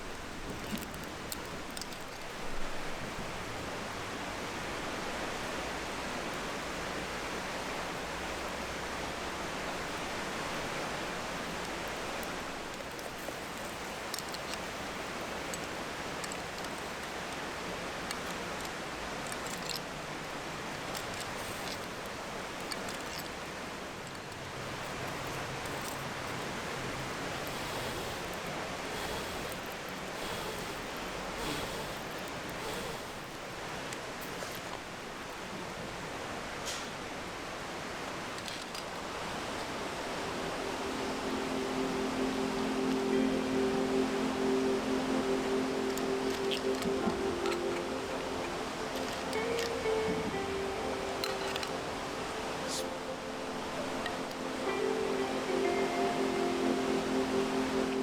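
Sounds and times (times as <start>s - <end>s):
campfire crackling: 0.0s - 35.4s, 37.8s - 58.0s.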